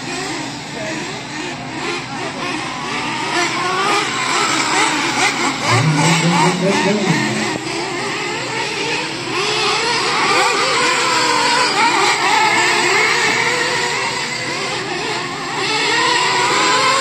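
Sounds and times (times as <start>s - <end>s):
radio-controlled car motors: 0.0s - 17.0s.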